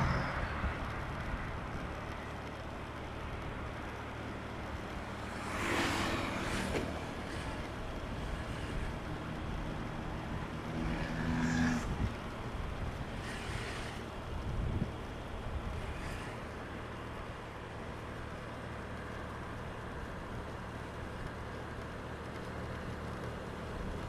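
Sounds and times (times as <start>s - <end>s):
cars passing by: 0.0s - 24.0s
traffic rumble: 0.0s - 24.0s.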